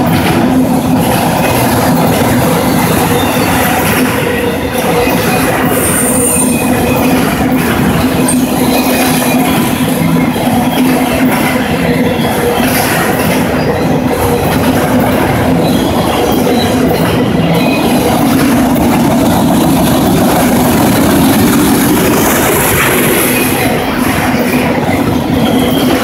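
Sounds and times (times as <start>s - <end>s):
freight train rolling past: 0.0s - 26.0s
wheels squealing on rails: 0.0s - 26.0s.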